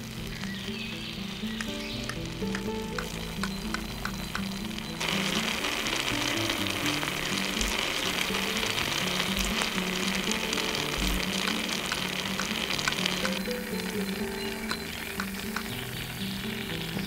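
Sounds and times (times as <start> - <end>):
gravy sizzling in a pot: 0.0 - 17.0.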